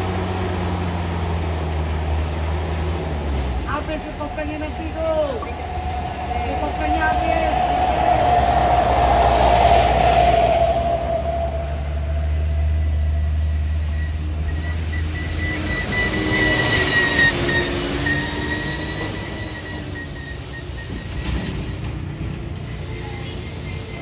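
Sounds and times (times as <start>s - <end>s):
truck engine running low: 0.0s - 24.0s
truck brake squeal: 1.2s - 24.0s.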